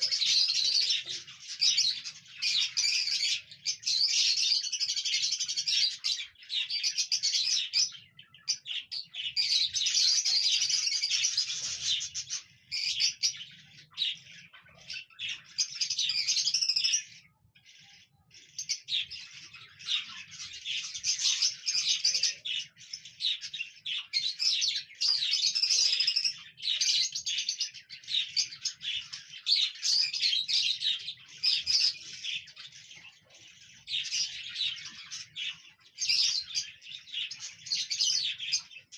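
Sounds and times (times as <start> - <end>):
cockatiels chirping: 0.0 - 38.9.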